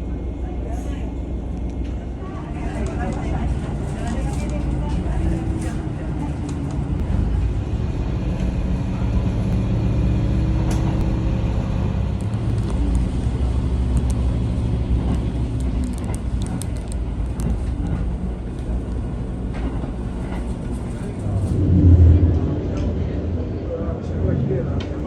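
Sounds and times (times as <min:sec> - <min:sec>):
railcar engine drone: 0:00.0 - 0:25.0
low rumble: 0:04.8 - 0:25.0.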